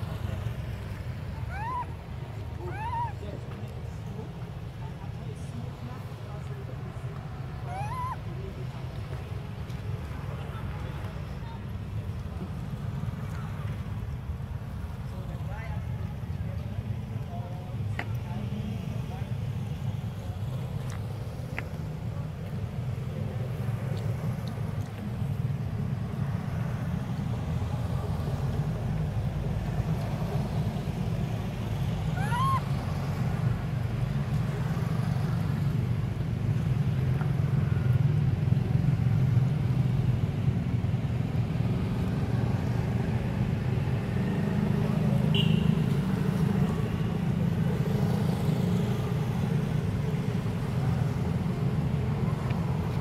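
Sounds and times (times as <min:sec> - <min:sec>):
low outdoor rumble: 0:00.0 - 0:45.2, 0:45.9 - 0:53.0.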